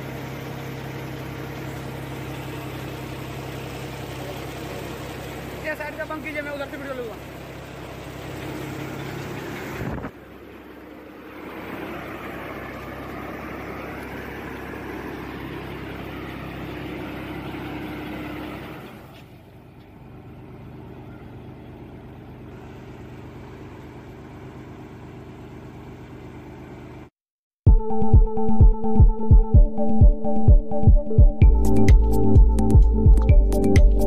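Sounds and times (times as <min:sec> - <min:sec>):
tractor engine running: 0:00.0 - 0:27.1, 0:27.8 - 0:34.0.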